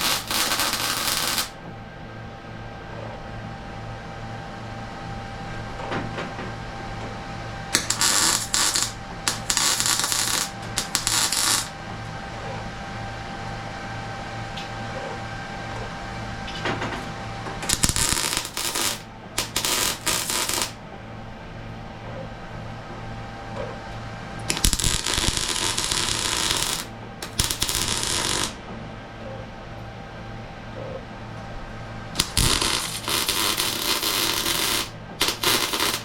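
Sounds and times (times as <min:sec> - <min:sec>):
shop hum: 0:00.0 - 0:36.0.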